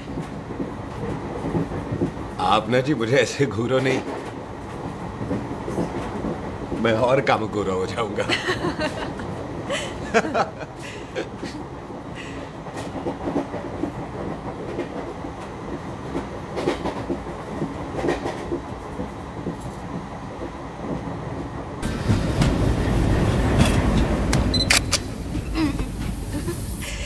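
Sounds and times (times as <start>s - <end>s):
train rumble with wheel clatter: 0.0s - 27.0s.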